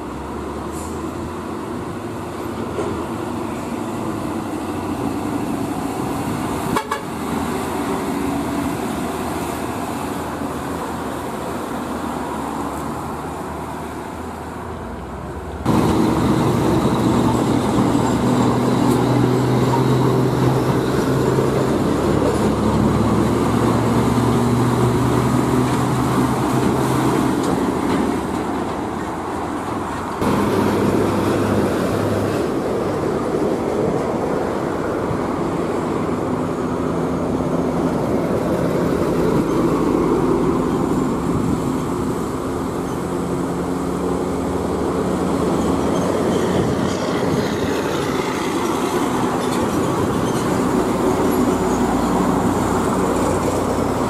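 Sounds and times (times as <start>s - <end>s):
heavy diesel trucks passing: 0.0s - 54.0s
truck diesel engine hum: 0.0s - 54.0s.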